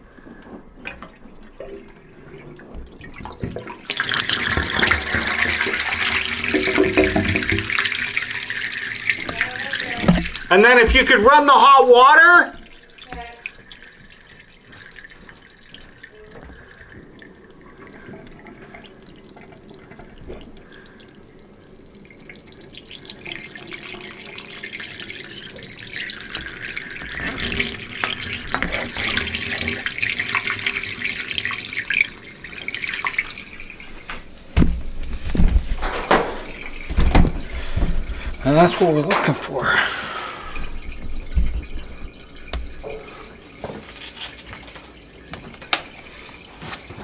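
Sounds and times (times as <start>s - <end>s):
water rushing down drain: 0.8s - 47.0s.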